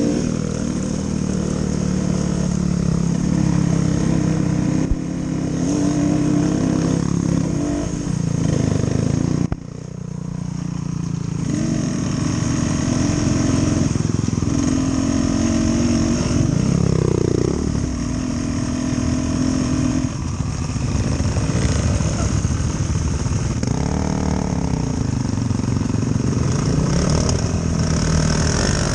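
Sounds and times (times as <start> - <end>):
dirt bike engine revving: 0.0 - 9.6, 11.4 - 28.9.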